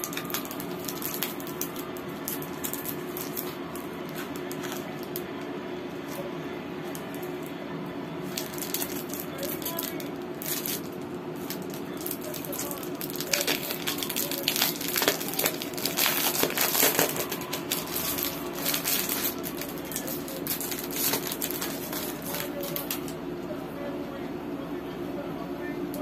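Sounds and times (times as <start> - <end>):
cellophane wrapping crinkling: 0.0 - 7.6, 8.2 - 23.2.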